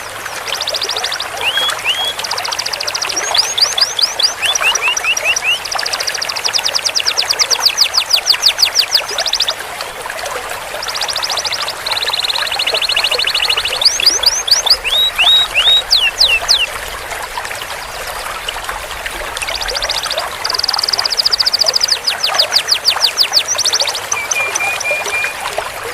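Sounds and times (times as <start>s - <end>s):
canary singing trills: 0.0s - 9.6s, 10.8s - 16.7s, 19.5s - 25.4s.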